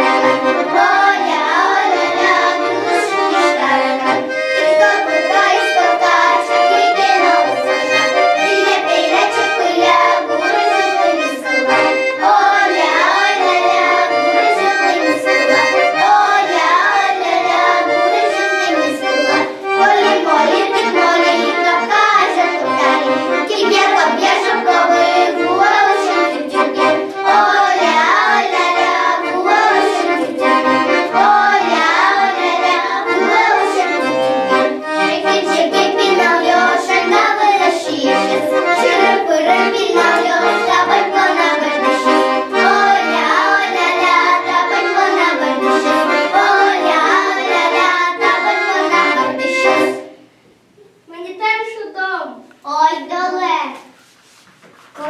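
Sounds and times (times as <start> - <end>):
children singing folk song: 0.0 - 50.2
accordion: 0.0 - 50.4.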